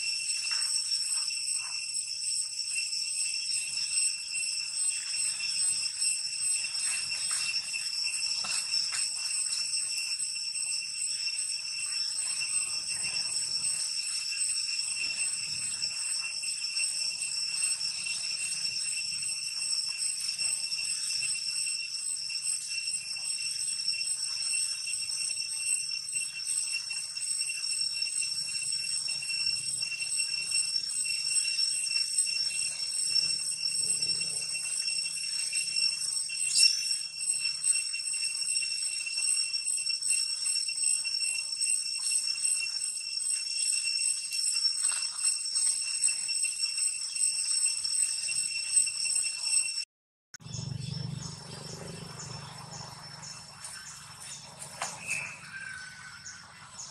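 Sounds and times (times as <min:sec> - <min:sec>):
shrill insect chorus: 0:00.0 - 0:49.8, 0:50.4 - 0:56.9.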